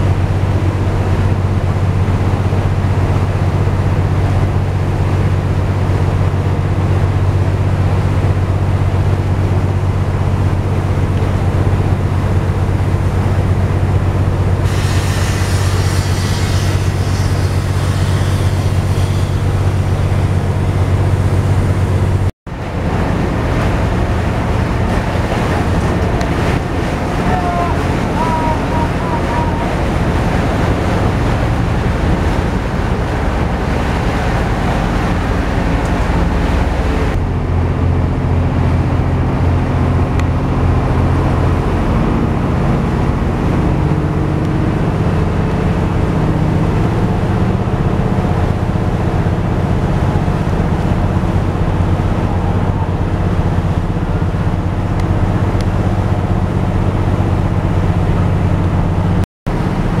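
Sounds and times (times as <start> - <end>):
boat engine humming: 0.0 - 60.0
water rushing past hull: 0.0 - 60.0.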